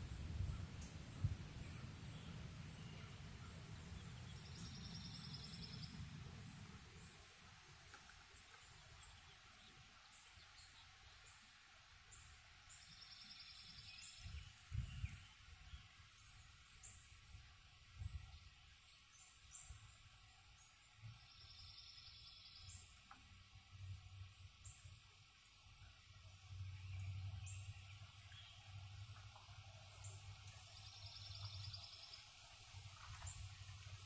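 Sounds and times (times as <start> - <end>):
bird chirping: 0.1 - 17.3, 18.0 - 34.0.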